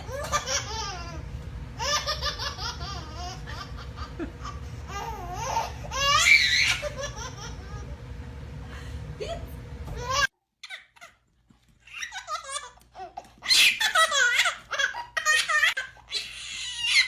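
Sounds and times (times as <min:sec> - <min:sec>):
baby laughing: 0:00.0 - 0:08.0, 0:09.9 - 0:17.0.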